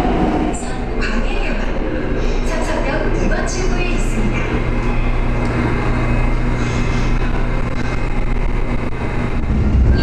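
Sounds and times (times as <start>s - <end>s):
subway train humming: 0.0s - 10.0s.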